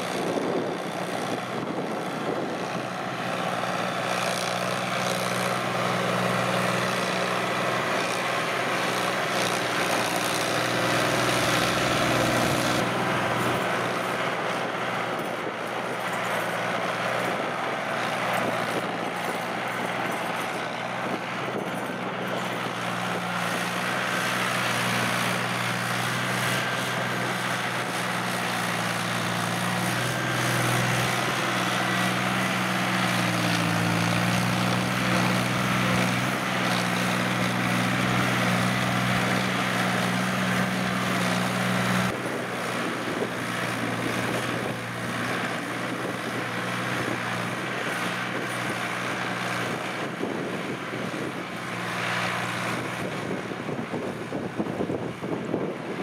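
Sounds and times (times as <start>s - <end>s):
diesel tractor engines running: 0.0s - 56.0s
rotary tillers working soil: 0.0s - 56.0s.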